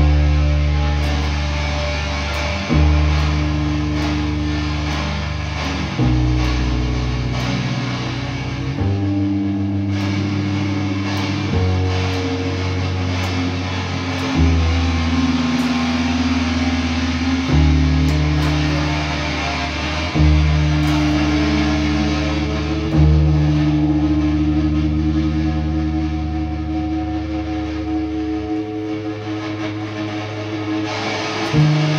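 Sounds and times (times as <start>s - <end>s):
low bass guitar notes: 0.0s - 31.9s
sustained guitar texture: 0.0s - 31.9s.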